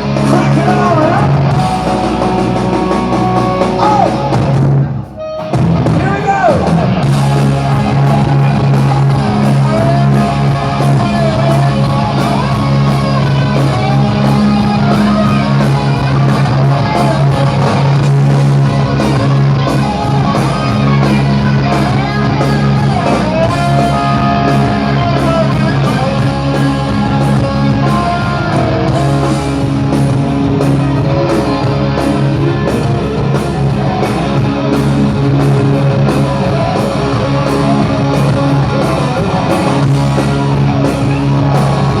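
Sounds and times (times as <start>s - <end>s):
electric guitar: 0.0s - 42.0s
steady drum beat: 0.0s - 42.0s.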